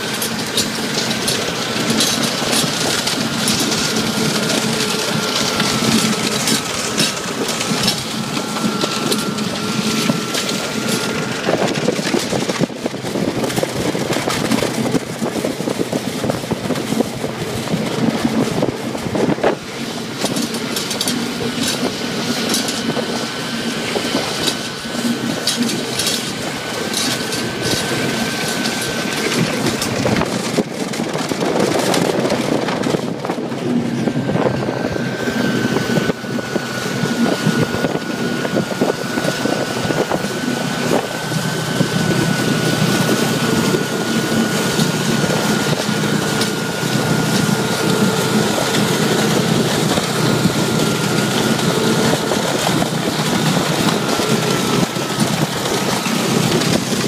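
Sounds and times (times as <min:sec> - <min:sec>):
snowmobiles high whine: 0:00.0 - 0:57.0
wind noise on microphone: 0:00.0 - 0:57.0.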